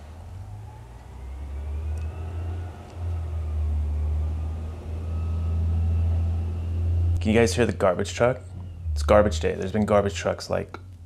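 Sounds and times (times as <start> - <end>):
faint whine: 0.0 - 11.0
truck engine rumbling: 0.0 - 11.0.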